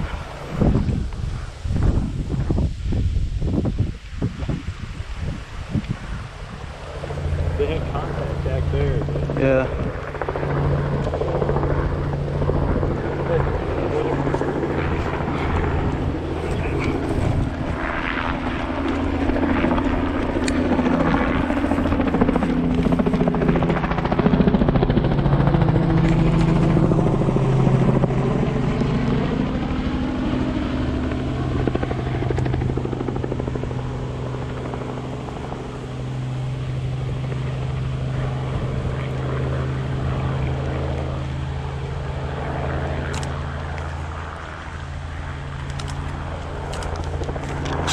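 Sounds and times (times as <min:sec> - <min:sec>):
engine drone: 0:00.0 - 0:03.6, 0:04.8 - 0:47.9.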